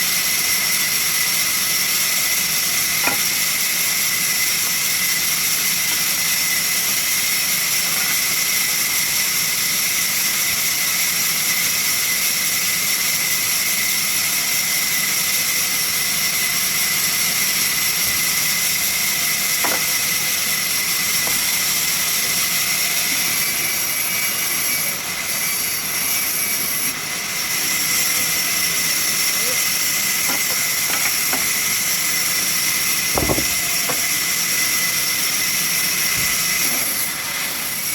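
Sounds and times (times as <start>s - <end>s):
sawmill machinery hissing: 0.0s - 37.9s.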